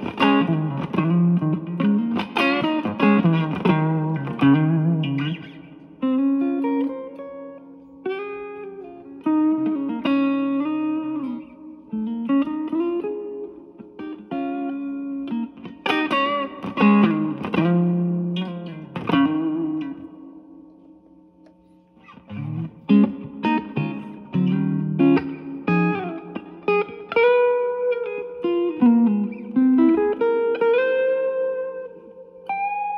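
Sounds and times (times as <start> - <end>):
electric guitar single-note lines: 0.0 - 32.9
strummed guitar notes: 0.0 - 32.9.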